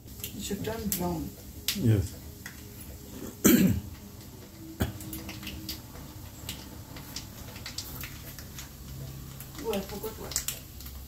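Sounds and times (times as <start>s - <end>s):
oil sizzling: 0.0s - 11.0s
seeds popping in hot oil: 0.0s - 11.0s.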